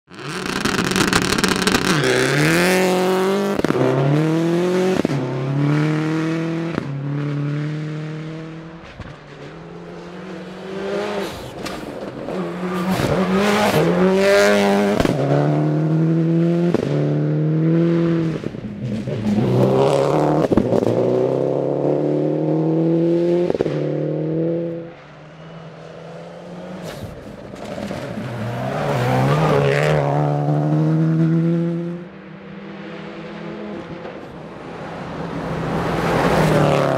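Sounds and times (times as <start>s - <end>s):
rally car engine at full throttle: 0.1s - 36.9s.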